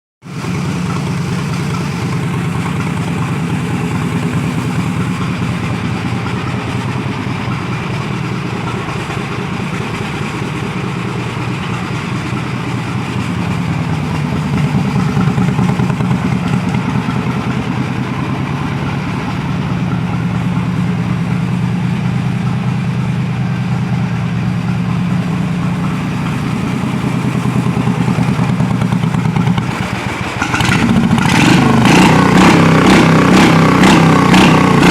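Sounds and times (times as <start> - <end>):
lawn mower engine running: 0.2 - 34.9.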